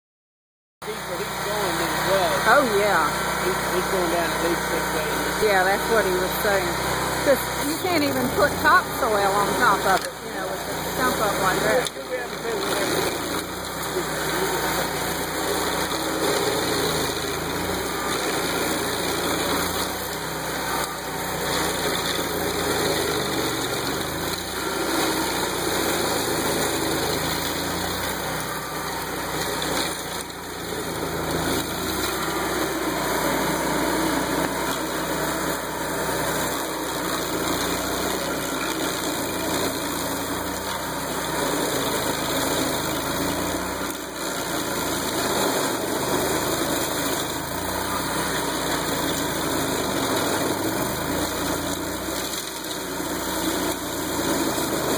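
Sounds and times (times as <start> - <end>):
stump grinder running: 0.8 - 54.9.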